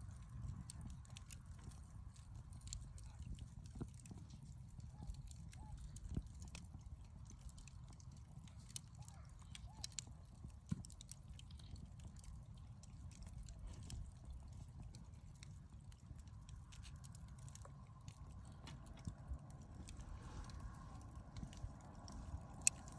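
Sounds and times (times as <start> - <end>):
campfire crackling and popping: 0.0 - 22.9
faint low rumble: 0.0 - 22.9.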